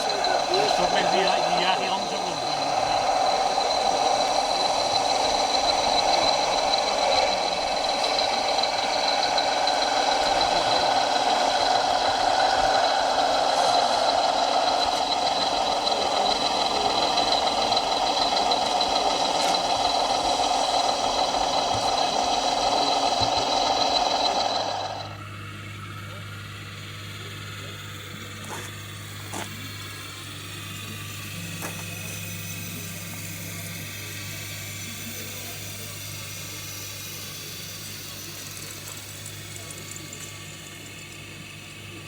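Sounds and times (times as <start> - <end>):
high steady whine: 0.0 - 42.0
toy truck diesel engine sound: 0.0 - 42.0.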